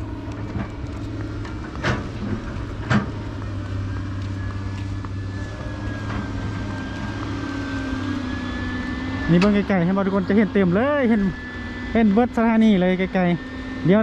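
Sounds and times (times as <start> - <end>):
faint high whine: 0.0 - 14.0
low engine rumble: 0.0 - 14.0.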